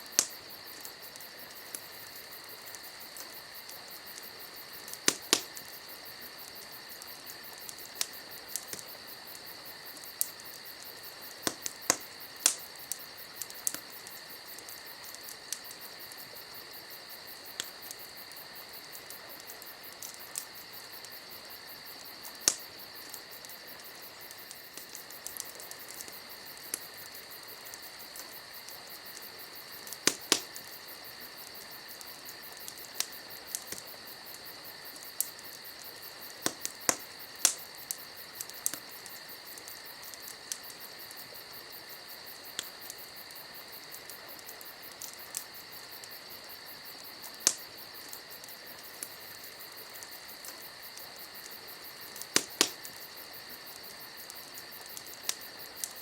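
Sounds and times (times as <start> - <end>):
campfire crackling and popping: 0.0 - 56.0
crickets chirring: 0.0 - 56.0.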